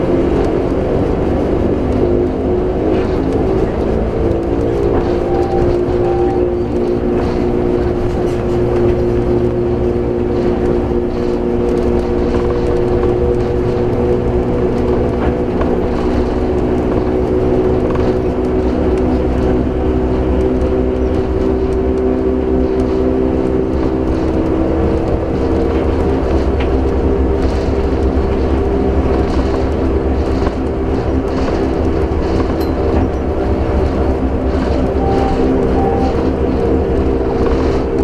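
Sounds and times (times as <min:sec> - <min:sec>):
train low rumble: 0:00.0 - 0:38.0
train whine: 0:00.0 - 0:38.0.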